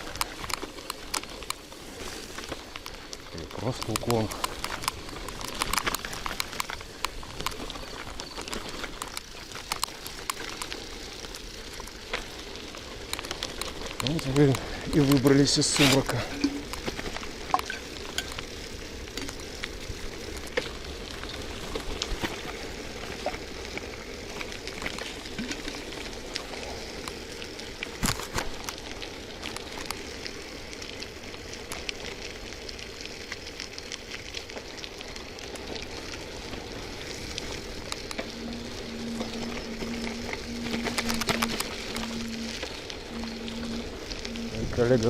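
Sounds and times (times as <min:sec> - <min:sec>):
bicycle frame and chain rattling: 0:00.0 - 0:45.0
tyres hissing on wet ground: 0:00.0 - 0:45.0.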